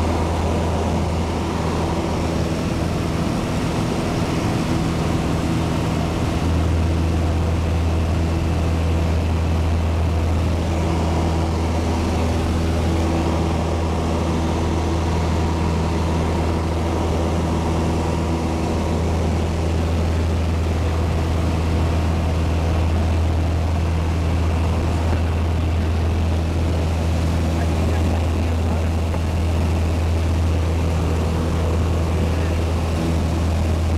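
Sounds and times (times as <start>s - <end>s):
propeller plane engine drone: 0.0s - 33.9s.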